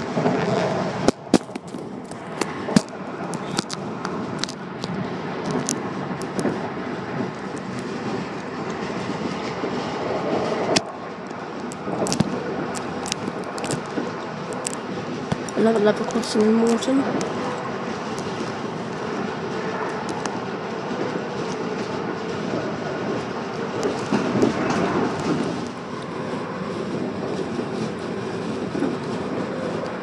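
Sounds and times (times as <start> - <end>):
train wheels rumbling on track: 0.0 - 30.0
wheels clicking and knocking: 0.0 - 30.0.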